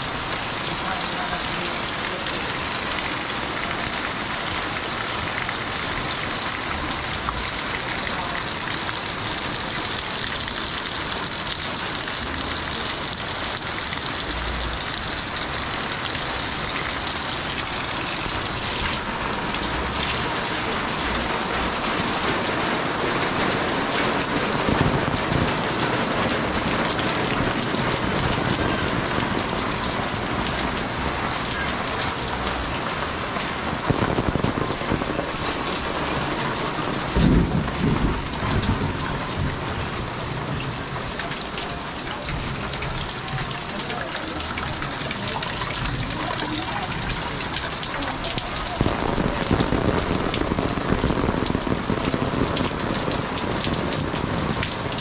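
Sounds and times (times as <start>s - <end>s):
heavy rain on roofs: 0.0s - 55.0s
runoff splashing off eaves: 0.0s - 55.0s.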